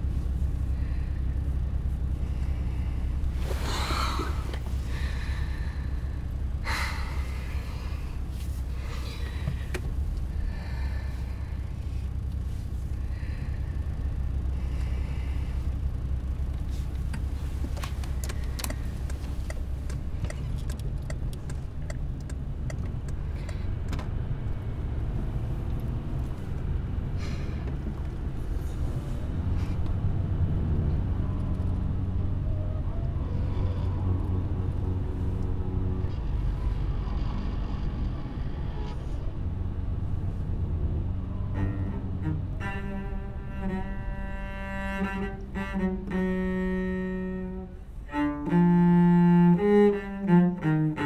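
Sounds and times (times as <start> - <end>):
car driving rumble from inside: 0.0 - 51.0.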